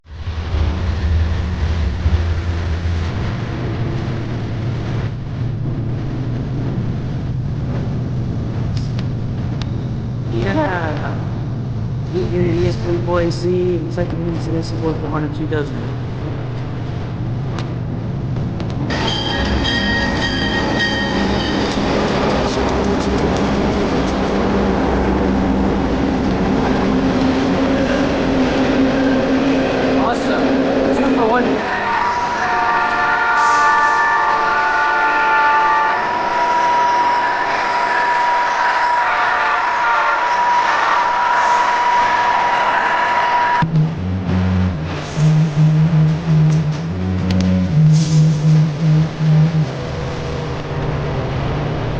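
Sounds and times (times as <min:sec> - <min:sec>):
locomotive engine hum: 0:00.0 - 0:37.3, 0:43.6 - 0:51.9
freight train rolling past: 0:00.1 - 0:10.4, 0:11.0 - 0:46.0.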